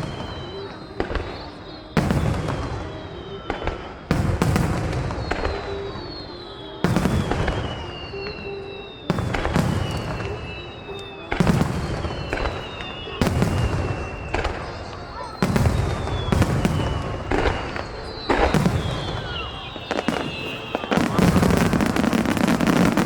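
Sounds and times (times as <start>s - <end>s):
firework crackle and rumbling echo: 0.0s - 23.0s
firework shells booming: 0.0s - 23.0s.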